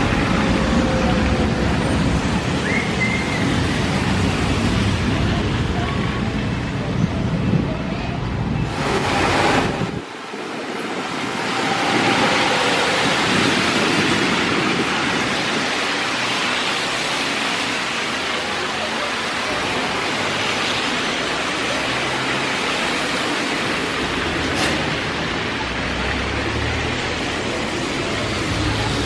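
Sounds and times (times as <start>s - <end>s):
traffic on wet road: 0.0s - 29.0s.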